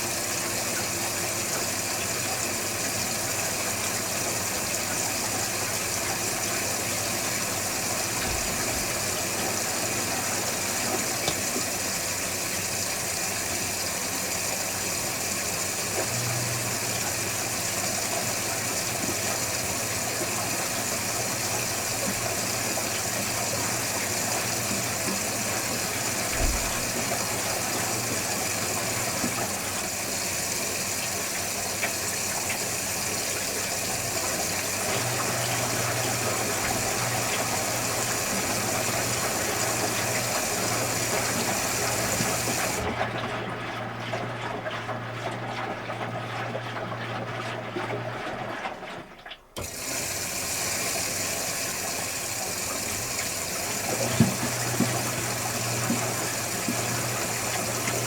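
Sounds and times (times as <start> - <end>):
water rushing in washing machine: 0.0 - 58.0.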